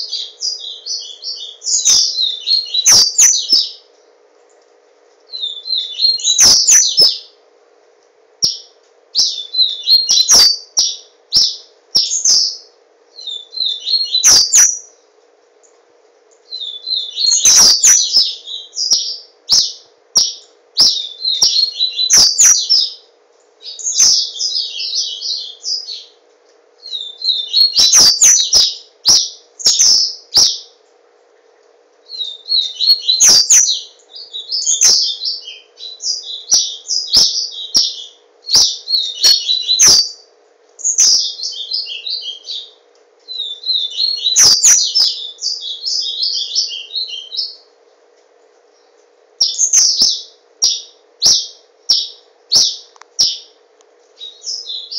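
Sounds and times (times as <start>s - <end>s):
bird twittering song: 0.0s - 4.6s, 5.3s - 7.4s, 8.4s - 15.0s, 15.6s - 26.2s, 26.8s - 30.9s, 32.0s - 47.8s, 48.6s - 54.9s
faint steady hum: 0.0s - 54.9s.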